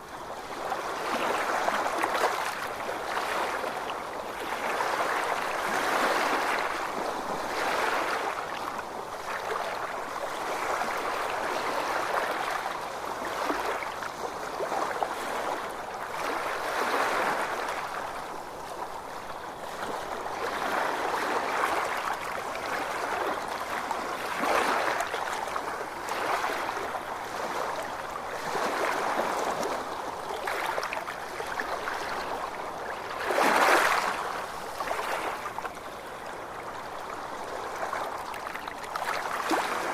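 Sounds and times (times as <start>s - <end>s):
ocean waves washing ashore: 0.3s - 39.9s.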